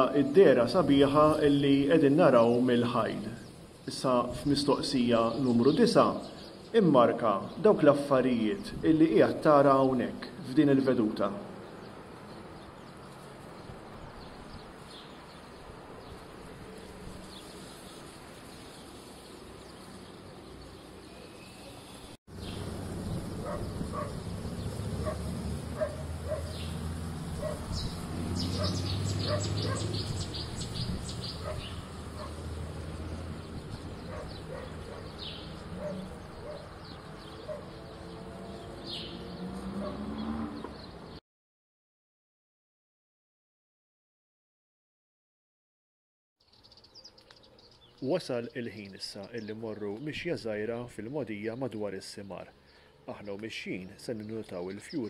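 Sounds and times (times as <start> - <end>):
small birds chirping: 0.0 - 41.2, 46.4 - 55.0.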